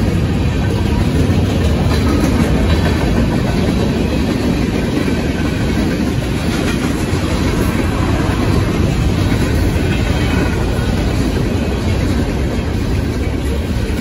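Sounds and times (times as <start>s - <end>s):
freight train cars rolling past: 0.0s - 14.0s.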